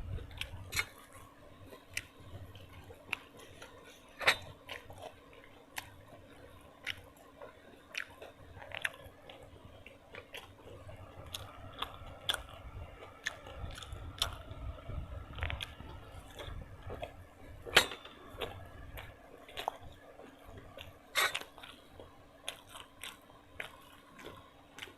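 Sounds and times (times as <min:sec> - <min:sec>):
chewing and biting food: 0:00.0 - 0:24.9.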